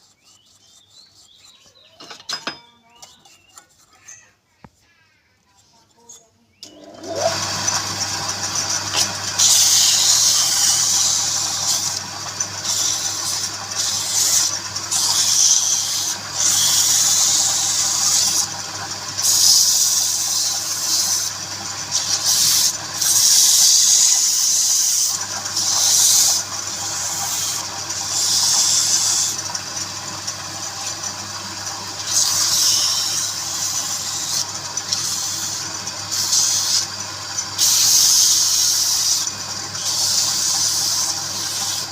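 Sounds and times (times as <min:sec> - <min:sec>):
tool hissing against spinning wood: 0:00.0 - 0:01.8, 0:06.6 - 0:41.9
wood lathe motor humming: 0:06.6 - 0:41.9.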